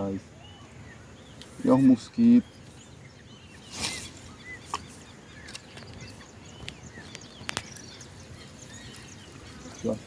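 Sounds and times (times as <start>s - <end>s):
wild birds chirping: 0.0s - 10.0s.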